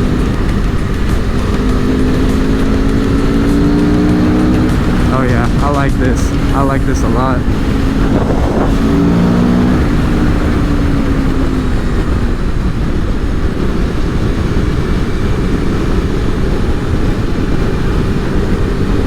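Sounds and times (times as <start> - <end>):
motorcycle engine running: 0.0 - 19.0
wind noise rushing: 0.0 - 19.0.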